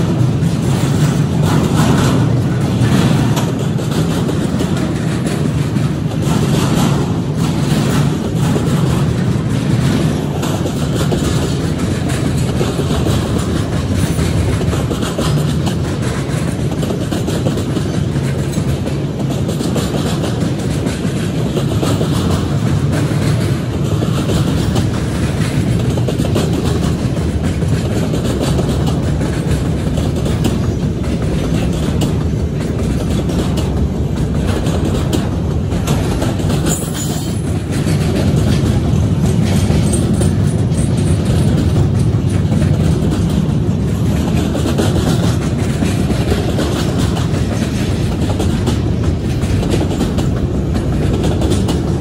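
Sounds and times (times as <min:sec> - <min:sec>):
rail clicks: 0:00.0 - 0:52.0
train wheels rumbling on rails: 0:00.0 - 0:52.0.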